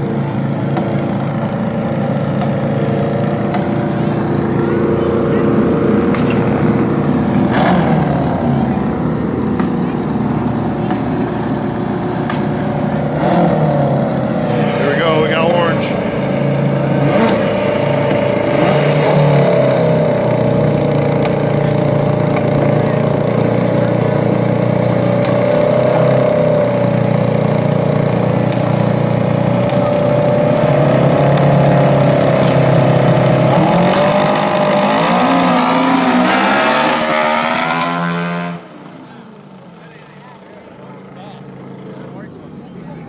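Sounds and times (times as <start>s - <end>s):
racing lawn mower engines: 0.0s - 43.0s.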